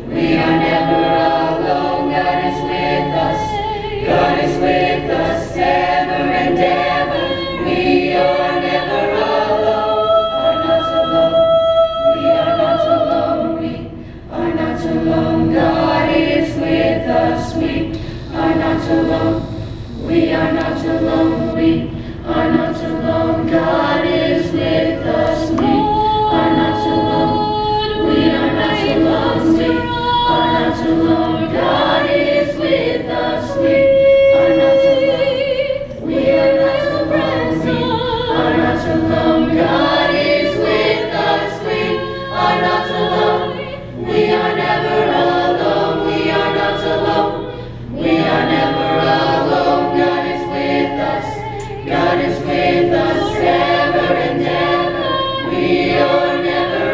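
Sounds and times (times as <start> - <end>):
choir singing in harmony: 0.0 - 56.9.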